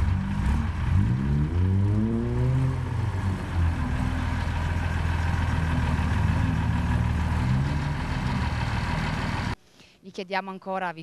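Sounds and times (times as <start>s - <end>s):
diesel truck engine running: 0.0s - 9.6s.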